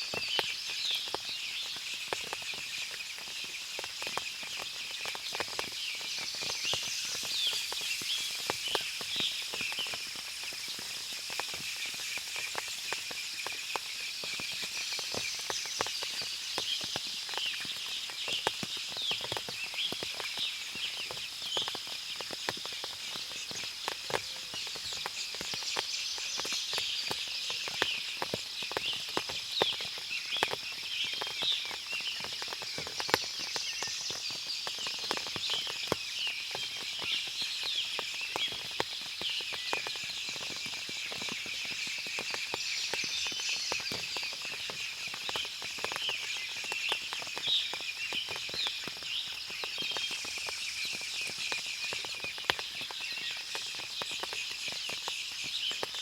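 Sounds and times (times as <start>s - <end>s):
birds chirping and twittering: 0.0s - 56.0s
water drips: 0.0s - 56.0s.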